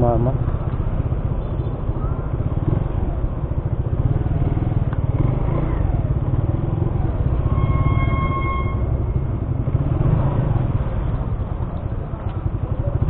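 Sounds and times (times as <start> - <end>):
small motorcycle engine running: 0.2 - 13.0.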